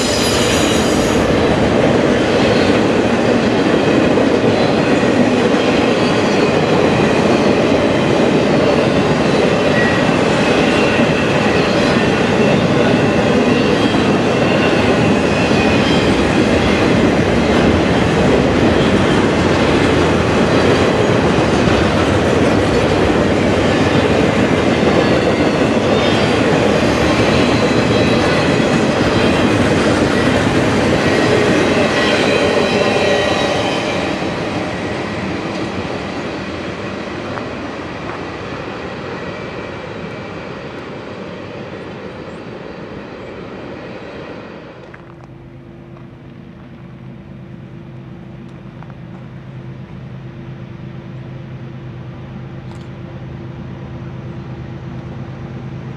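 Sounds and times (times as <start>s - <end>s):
freight train passing: 0.0s - 55.9s.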